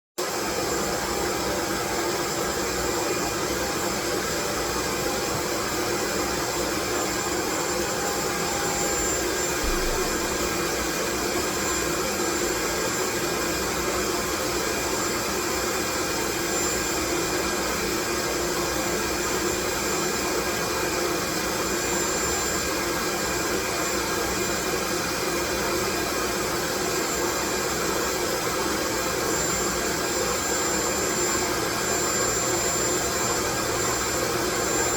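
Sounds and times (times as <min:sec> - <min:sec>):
faint machine hum: 0:00.2 - 0:34.9.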